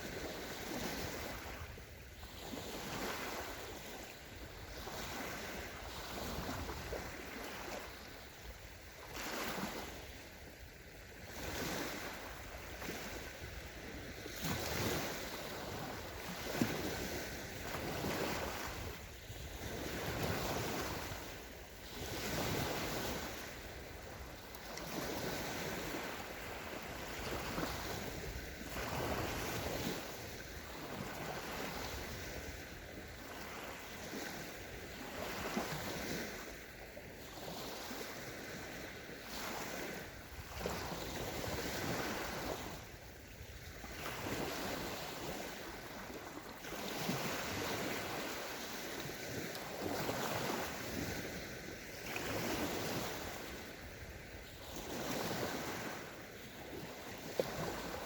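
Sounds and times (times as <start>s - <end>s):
waves washing onto sand: 0.0s - 58.0s
wind on microphone: 0.0s - 58.0s.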